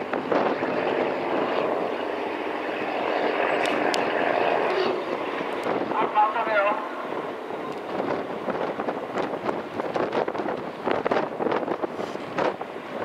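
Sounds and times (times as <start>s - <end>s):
boat engine droning: 0.0s - 13.0s
wind on microphone: 0.0s - 13.0s.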